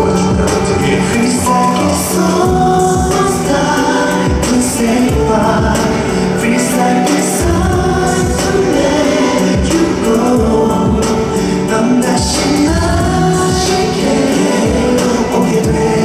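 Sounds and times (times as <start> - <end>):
band with drum beat: 0.0 - 16.0
live pop singing: 0.0 - 16.0.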